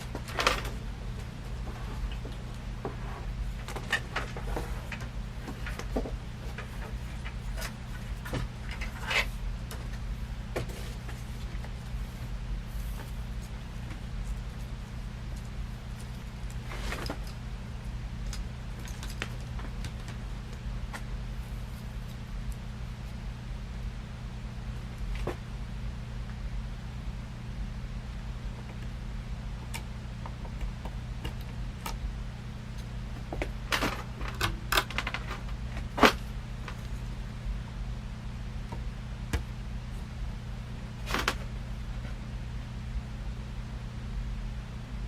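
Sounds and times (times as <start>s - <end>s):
ceiling fan running: 0.0s - 45.0s
steady low hum: 0.0s - 45.0s.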